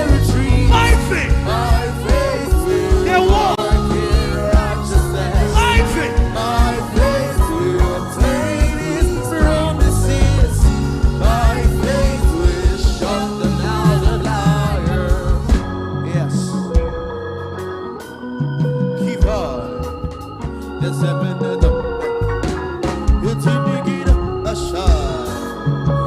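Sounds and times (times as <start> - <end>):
drums: 0.0 - 26.0
gospel band playing: 0.0 - 26.0
organ chords: 0.0 - 26.0
wavering ornamented melody: 0.0 - 26.0.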